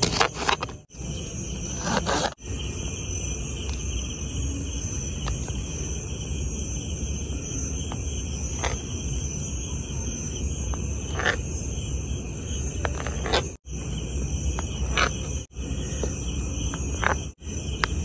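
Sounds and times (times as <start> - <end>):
night insects chorus: 0.0 - 18.0.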